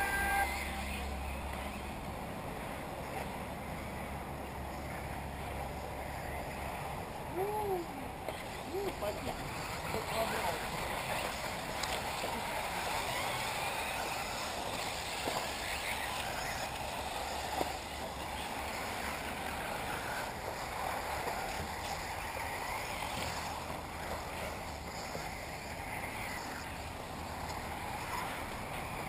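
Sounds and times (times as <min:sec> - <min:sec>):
electric toy car motors whining: 0:00.0 - 0:02.0, 0:02.6 - 0:29.0
steady outdoor noise: 0:00.0 - 0:29.0.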